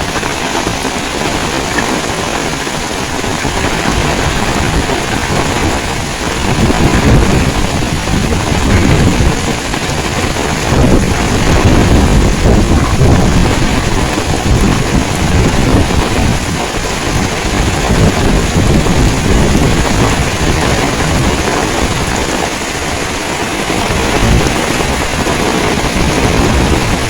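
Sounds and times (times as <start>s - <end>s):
heavy rain pouring: 0.0s - 27.0s
wind buffeting microphone: 0.0s - 27.0s.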